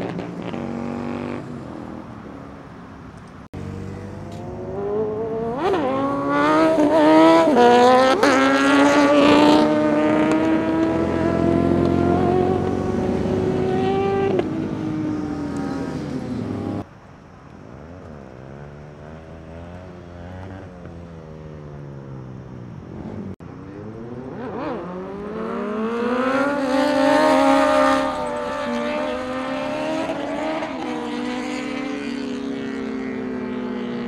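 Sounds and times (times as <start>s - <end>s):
motorcycle engine accelerating: 0.0s - 16.9s, 17.6s - 34.0s.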